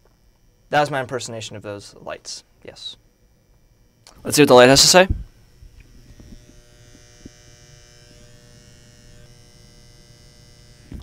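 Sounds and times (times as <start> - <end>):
fluorescent lights buzzing: 0.0 - 11.0
thin high whine: 0.0 - 11.0.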